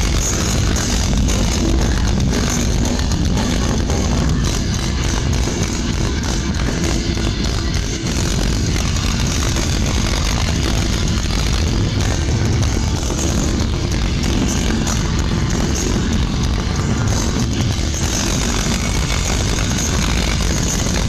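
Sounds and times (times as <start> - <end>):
death metal band playing live: 0.0 - 21.0.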